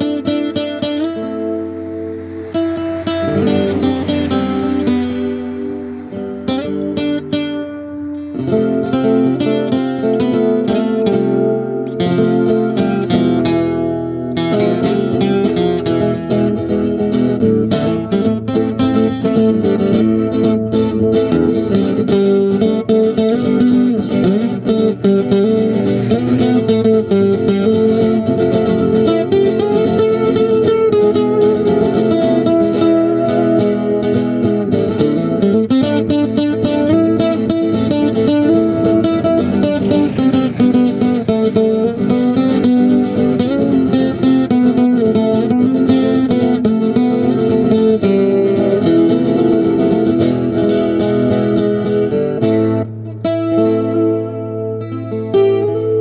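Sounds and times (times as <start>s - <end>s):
layered acoustic guitar: 0.0s - 56.0s.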